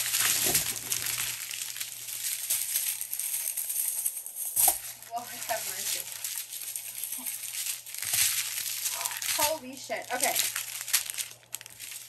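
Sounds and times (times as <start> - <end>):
plastic bag crinkling: 0.0 - 12.0
tiny beads rattling in bag: 0.0 - 12.0.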